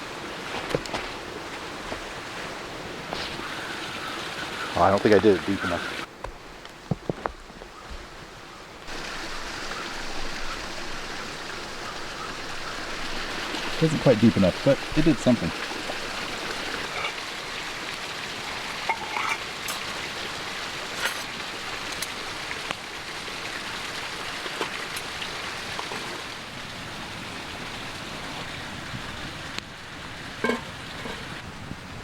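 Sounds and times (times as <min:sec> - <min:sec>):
creek water rushing: 0:00.0 - 0:06.2, 0:08.1 - 0:31.6.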